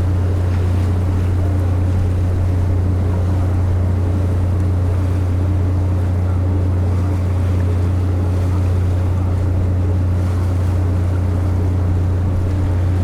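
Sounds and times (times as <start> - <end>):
sea noise: 0.0 - 13.0
ship engines droning: 0.0 - 13.0
wind: 0.0 - 13.0.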